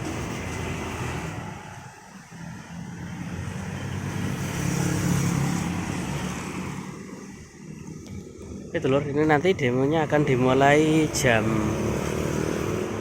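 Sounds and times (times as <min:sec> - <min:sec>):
vehicle engine and tyres passing: 0:00.0 - 0:13.0.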